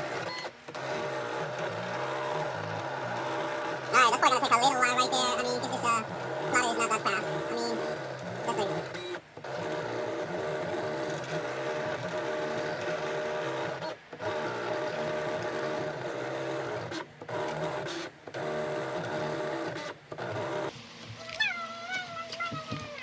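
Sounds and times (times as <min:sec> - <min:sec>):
vinyl cutter motors whirring: 0:00.0 - 0:23.0.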